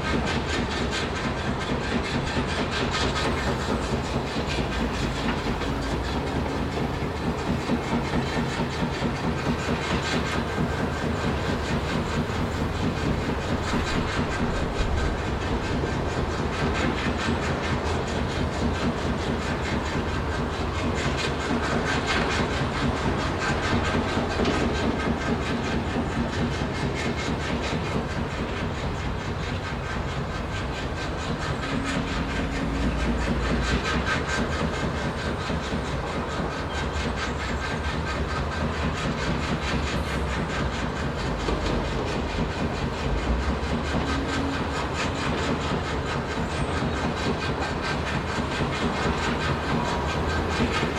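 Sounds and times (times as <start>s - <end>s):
machinery rhythmic clatter: 0.0s - 50.9s.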